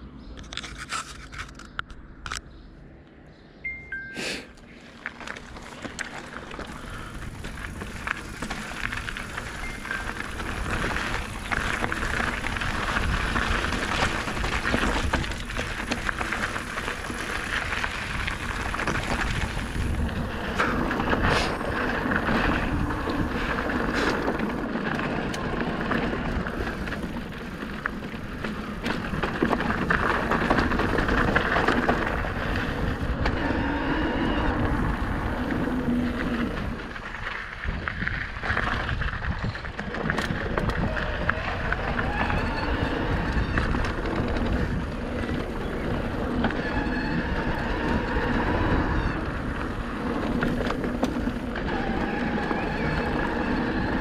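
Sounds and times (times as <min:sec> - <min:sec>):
tyres crunching over gravel: 0:04.6 - 0:54.0
bike clicks and knocks: 0:04.9 - 0:33.6, 0:34.6 - 0:54.0
wind on microphone: 0:06.7 - 0:27.2, 0:28.3 - 0:54.0.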